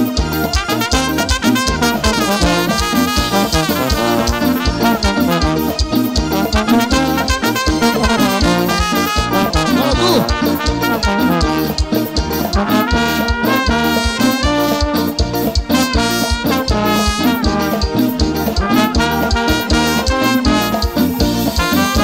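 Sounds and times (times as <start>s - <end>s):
live band dance music: 0.0s - 22.0s.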